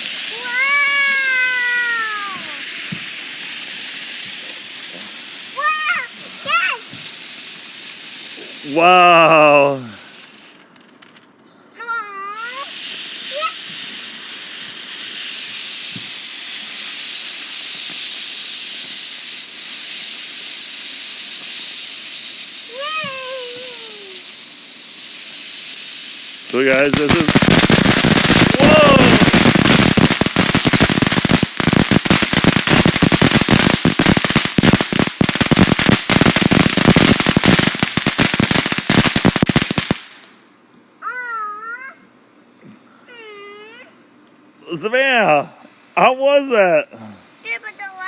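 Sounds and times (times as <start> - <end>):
firework fountain hissing: 0.0 - 42.0, 44.7 - 48.0.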